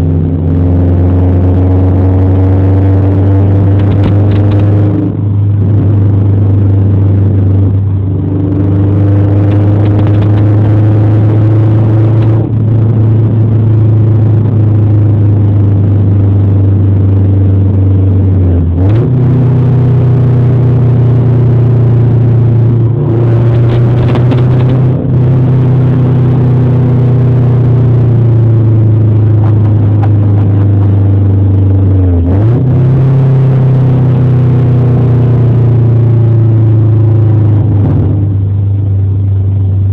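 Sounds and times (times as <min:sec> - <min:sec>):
car engine deep drone: 0:00.0 - 0:39.9.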